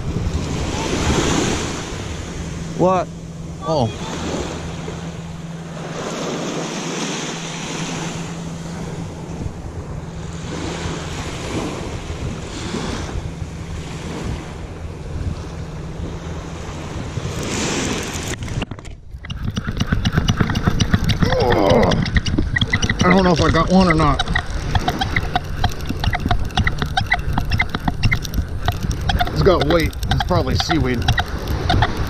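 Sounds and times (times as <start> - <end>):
small waves washing on shore: 0.0 - 18.6, 19.3 - 32.0
steady low hum: 0.0 - 32.0
wind gusting over microphone: 0.0 - 32.0.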